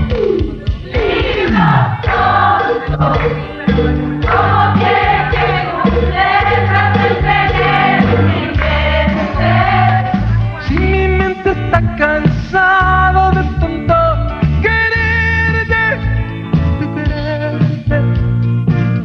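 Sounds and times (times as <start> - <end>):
drums: 0.0 - 19.0
live band instrumental music: 0.0 - 19.0
sustained melody line: 1.3 - 18.0
electric bass: 1.4 - 19.0.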